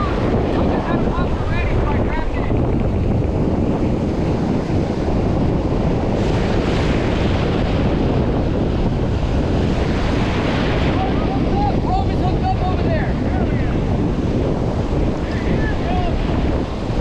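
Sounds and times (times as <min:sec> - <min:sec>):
breaking surf: 0:00.0 - 0:17.0
wind buffeting microphone: 0:00.0 - 0:17.0.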